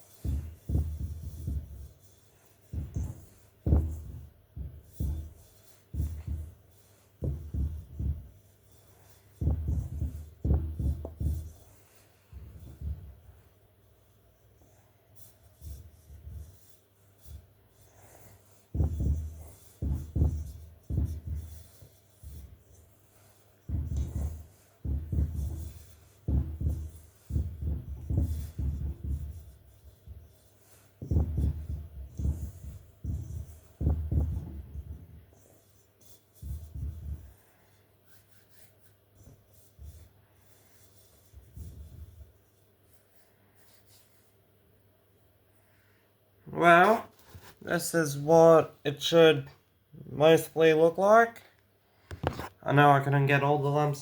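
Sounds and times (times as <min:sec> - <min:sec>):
hands rubbing butter into flour: 0:00.0 - 0:44.4.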